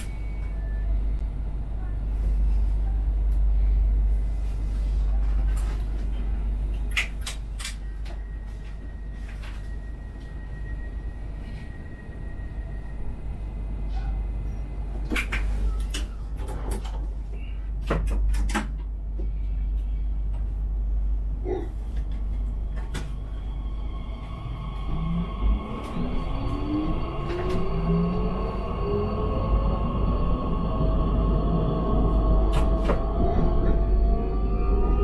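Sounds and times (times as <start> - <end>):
electric train humming: 0.0 - 17.6, 18.9 - 35.0.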